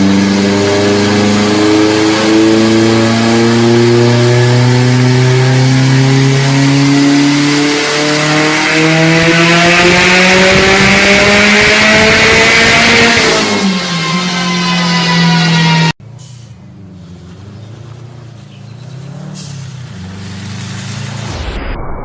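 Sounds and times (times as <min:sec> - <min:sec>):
car engine accelerating: 0:00.0 - 0:21.8
high turbo whine: 0:00.0 - 0:22.0.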